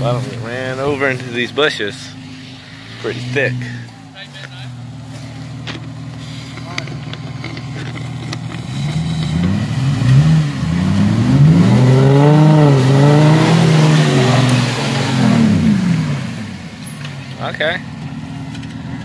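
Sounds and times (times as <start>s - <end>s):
vehicle engines revving: 0.0s - 19.0s.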